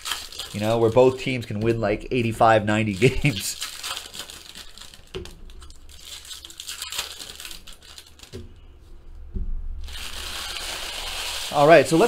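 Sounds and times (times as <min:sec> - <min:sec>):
plastic wrapper crinkling: 0:00.0 - 0:08.7, 0:09.8 - 0:12.0.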